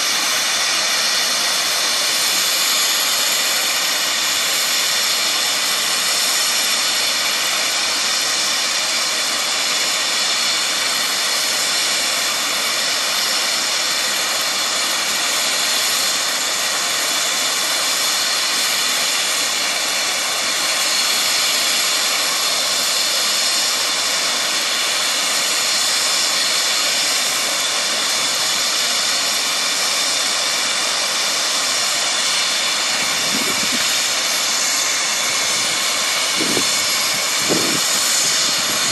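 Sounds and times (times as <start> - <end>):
helicopter turbine whine: 0.0 - 38.9.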